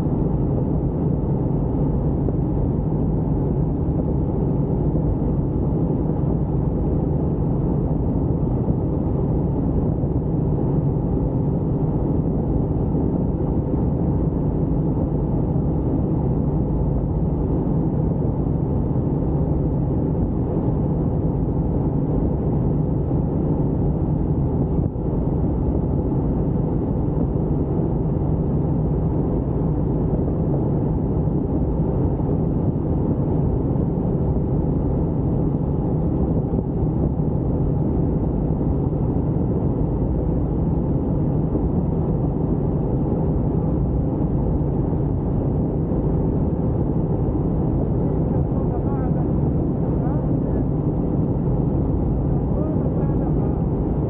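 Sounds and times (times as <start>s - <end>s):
helicopter engine and rotors droning: 0.0s - 54.0s.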